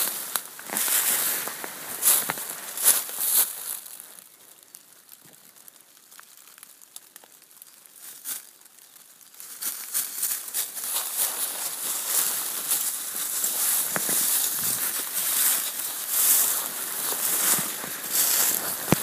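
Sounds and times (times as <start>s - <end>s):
dry leaves crunching and rustling: 0.0s - 19.0s.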